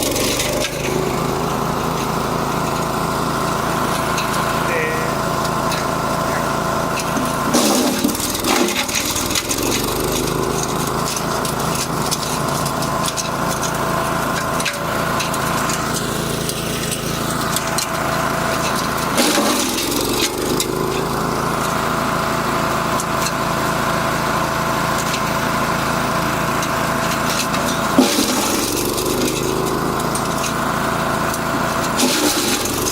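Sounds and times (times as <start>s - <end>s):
wood chipper chipping wood: 0.0s - 32.9s.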